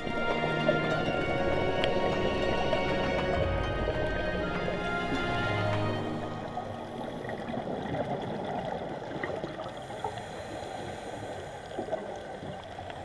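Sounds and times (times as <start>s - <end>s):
muffled underwater rush and gurgle: 0.0s - 13.0s.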